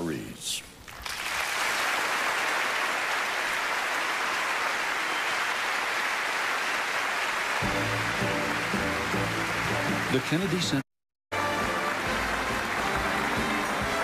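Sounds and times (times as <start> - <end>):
audience applauding: 0.9 - 10.8, 11.4 - 14.0.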